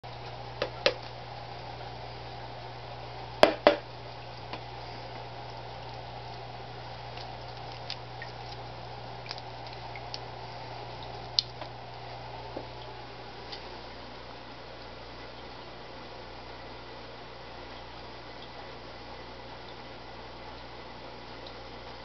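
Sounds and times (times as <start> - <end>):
aquarium equipment hum: 0.0 - 22.0
water trickling: 0.0 - 22.0.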